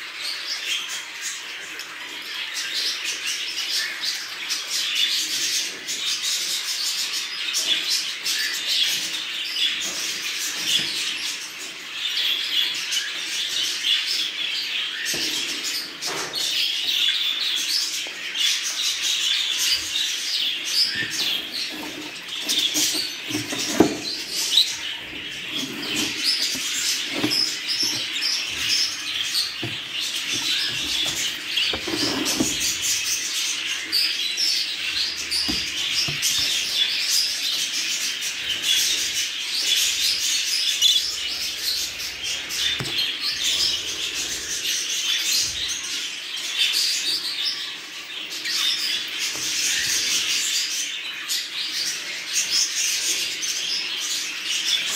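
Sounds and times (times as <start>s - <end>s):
budgerigars chirping: 0.2s - 54.9s.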